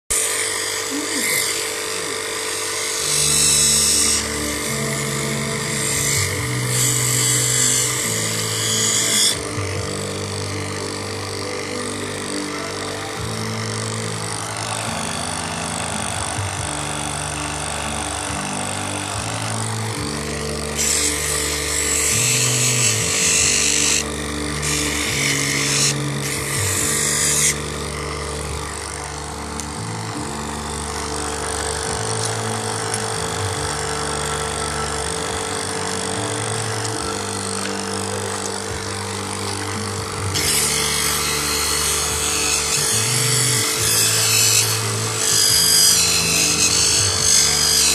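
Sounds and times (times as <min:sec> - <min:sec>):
polishing machine humming: 0:00.1 - 0:47.9
stone rasping on spinning wheel: 0:00.1 - 0:47.9.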